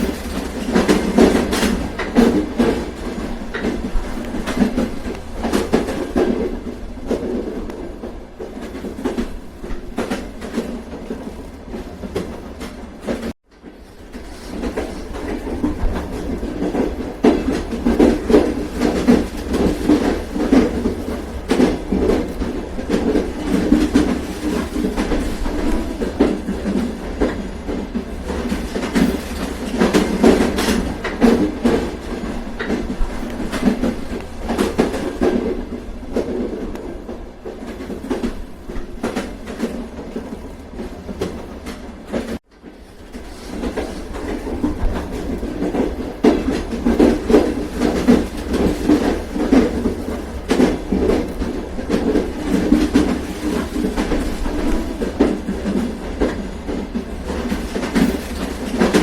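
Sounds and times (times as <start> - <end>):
train rumbling along track: 0.0 - 59.0
wheels clacking over rail joints: 0.0 - 59.0.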